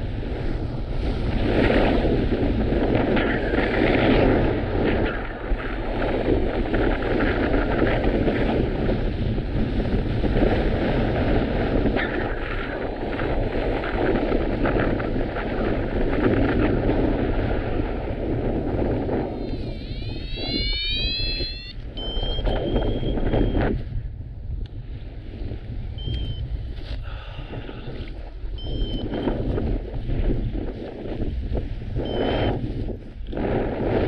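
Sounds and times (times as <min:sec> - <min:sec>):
strong wind buffeting microphone: 0:00.0 - 0:34.0.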